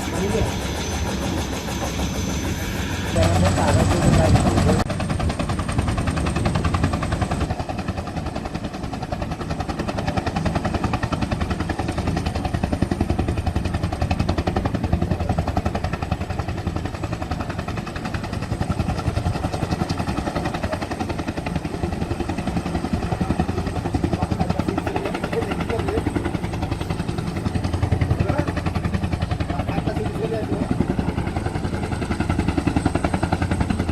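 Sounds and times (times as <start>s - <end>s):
high turbine whine: 0.0s - 7.5s, 11.4s - 33.9s
helicopter rotor chopping: 0.0s - 33.9s.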